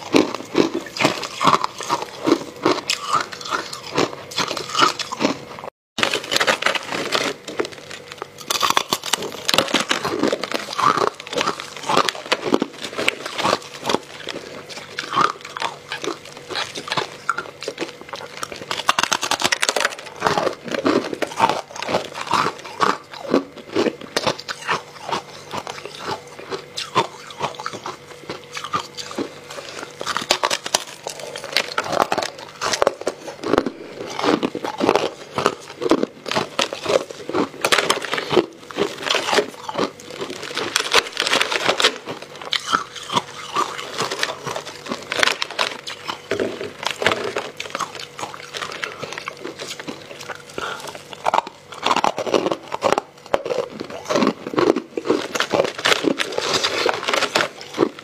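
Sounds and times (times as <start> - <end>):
chewing crunching ice: 0.0 - 58.0.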